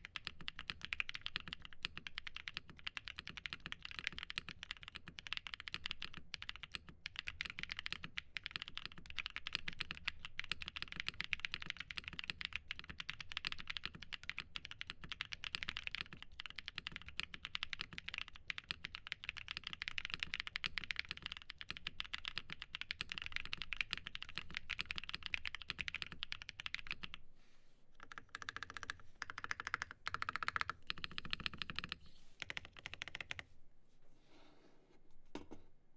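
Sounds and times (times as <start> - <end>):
mechanical keyboard typing: 0.0 - 27.2, 28.0 - 33.4.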